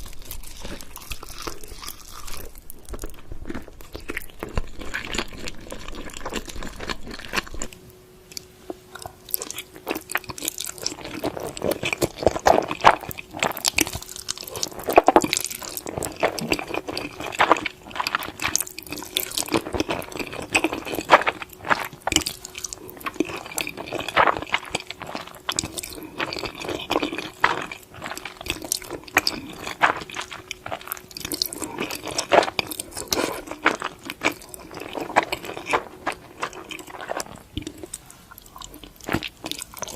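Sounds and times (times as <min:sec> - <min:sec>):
wet chewing and slurping: 0:00.0 - 0:39.9.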